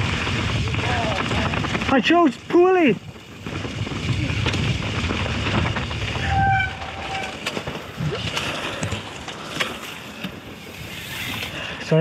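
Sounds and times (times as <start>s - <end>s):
bike knocks and rattles: 0.0s - 11.6s
bike tyre rumble on rough trail: 0.0s - 12.0s.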